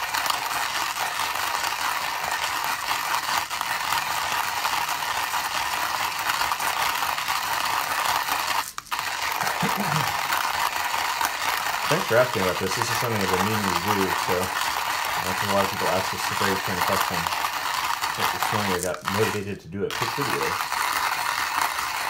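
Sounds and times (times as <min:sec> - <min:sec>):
manual coffee grinder grinding beans: 0:00.0 - 0:22.0.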